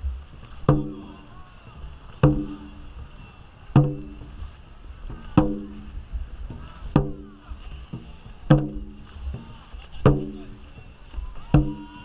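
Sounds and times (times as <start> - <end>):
drum beats with low boom: 0.0 - 12.0
paddles splashing water: 0.0 - 12.0.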